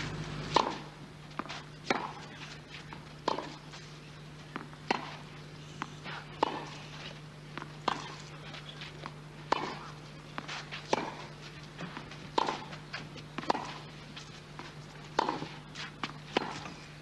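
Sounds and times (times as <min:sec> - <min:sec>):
racket hitting tennis ball: 0:00.0 - 0:03.8, 0:04.5 - 0:16.8
tennis ball bouncing: 0:00.0 - 0:03.8, 0:04.4 - 0:16.8.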